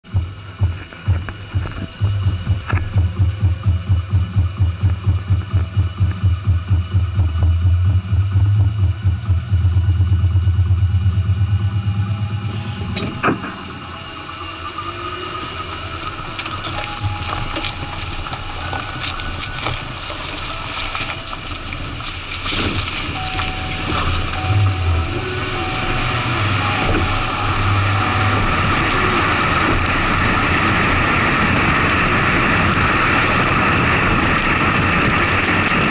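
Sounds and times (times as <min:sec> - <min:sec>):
road and wind noise: 0:00.0 - 0:35.9
truck driving off: 0:00.0 - 0:35.9
truck engine idling: 0:00.0 - 0:35.9.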